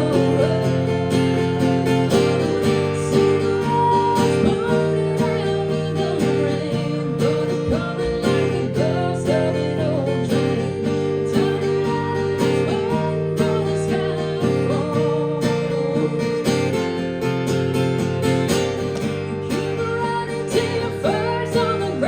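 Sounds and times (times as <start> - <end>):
person singing: 0.0 - 16.8, 19.5 - 22.0
strummed acoustic guitar: 0.0 - 22.0.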